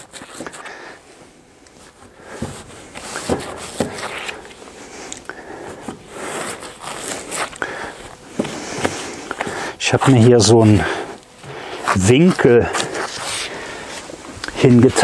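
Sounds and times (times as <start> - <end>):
insulation rustling and crackling: 0.0 - 15.0.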